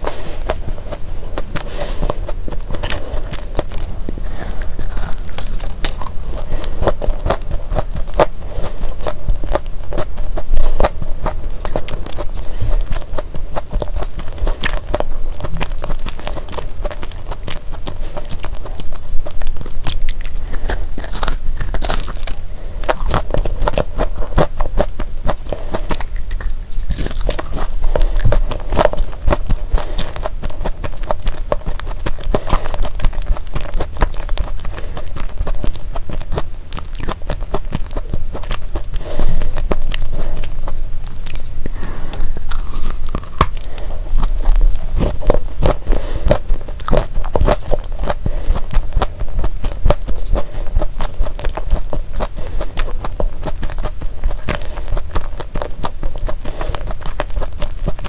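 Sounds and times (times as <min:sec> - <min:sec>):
chewing and crunching cookie: 0:00.0 - 0:58.0.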